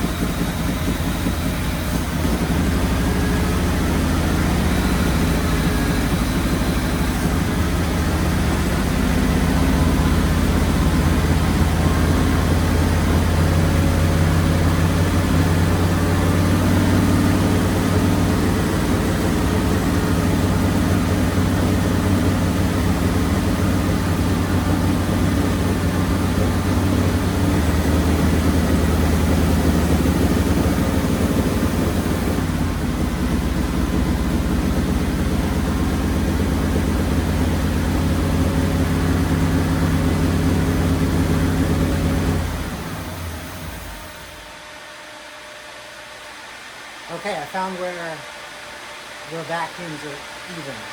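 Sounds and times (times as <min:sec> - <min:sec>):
car engine idling: 0:00.0 - 0:44.5.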